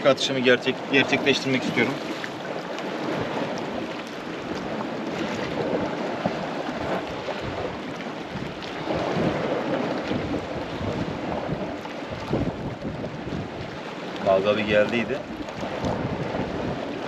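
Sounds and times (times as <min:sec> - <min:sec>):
sea waves washing against rocks: 0:00.0 - 0:17.0
wind buffeting microphone: 0:00.0 - 0:17.0.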